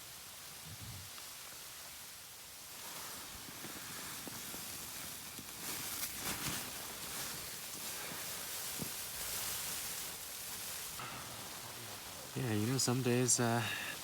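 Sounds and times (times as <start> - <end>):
steady hissing noise: 0.0 - 14.0
rustling: 2.7 - 14.0.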